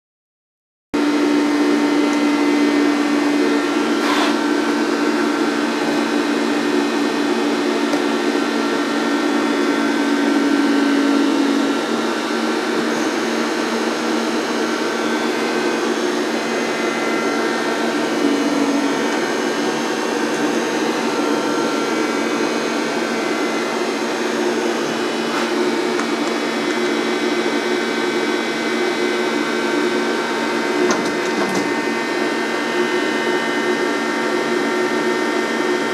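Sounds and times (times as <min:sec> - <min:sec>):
lathe electric hum with whine: 0:01.0 - 0:35.9.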